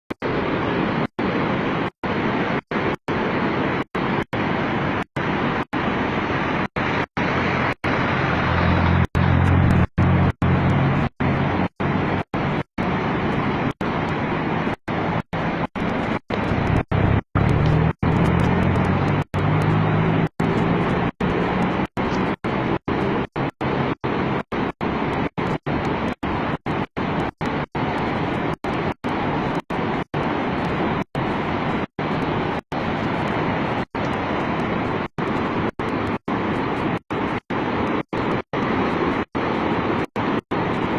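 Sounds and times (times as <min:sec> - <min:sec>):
rushing water on flooded street: 0:00.1 - 0:40.9.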